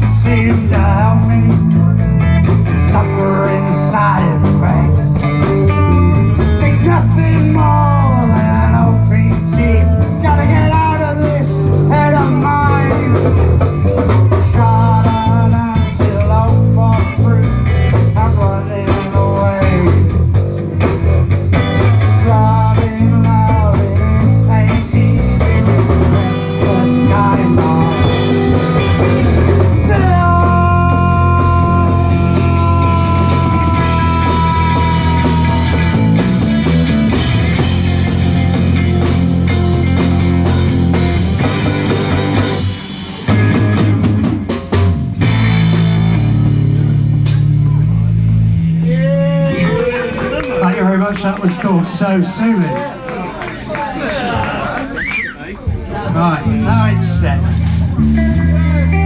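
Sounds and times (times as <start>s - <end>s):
electric lead guitar: 0.0s - 51.5s, 55.9s - 59.0s
rock band playing: 0.0s - 53.8s, 55.6s - 59.0s.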